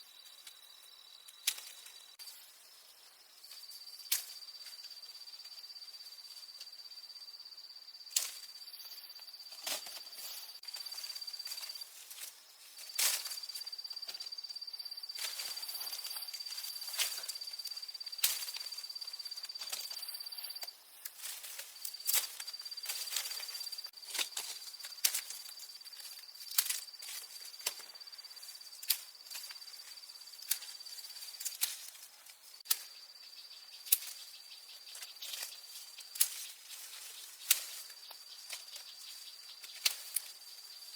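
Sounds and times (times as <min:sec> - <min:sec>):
high-pitched insect trill: 0:00.0 - 0:40.9.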